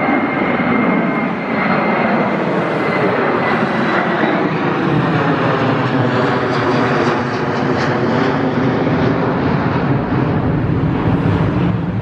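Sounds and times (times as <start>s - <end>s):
jet airliner flying overhead: 0.0s - 12.0s.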